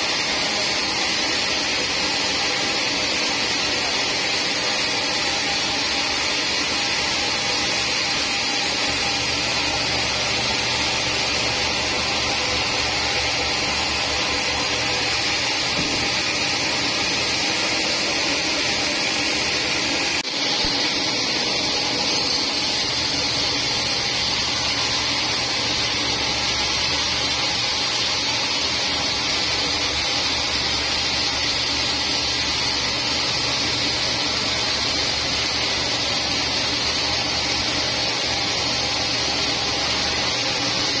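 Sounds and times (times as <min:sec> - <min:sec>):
band saw cutting log: 0:00.0 - 0:41.0.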